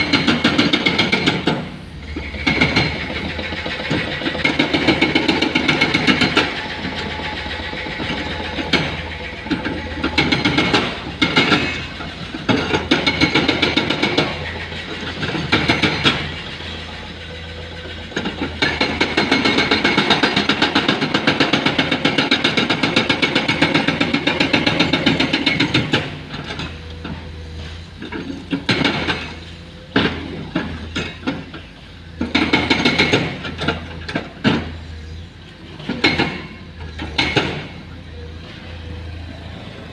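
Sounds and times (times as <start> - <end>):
hydraulic breaker pounding rock: 0.0 - 34.9, 35.6 - 38.6
excavator engine running: 0.0 - 39.9.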